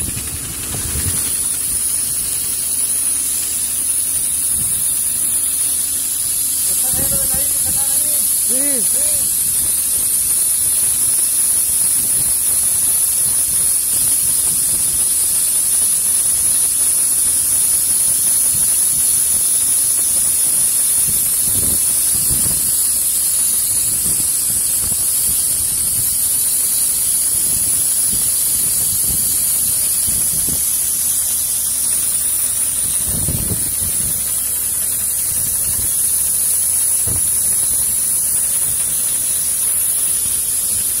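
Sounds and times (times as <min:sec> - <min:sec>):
spray gun hissing: 0:00.0 - 0:41.0.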